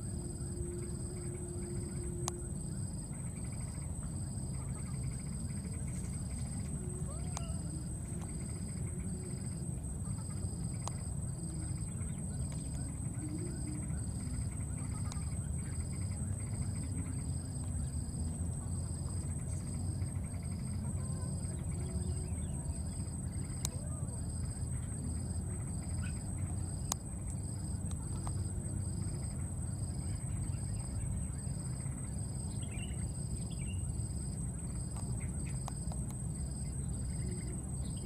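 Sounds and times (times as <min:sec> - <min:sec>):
cricket-like chirping: 0:00.0 - 0:38.0
insects whining: 0:00.0 - 0:38.0
low steady rumble: 0:00.0 - 0:38.0.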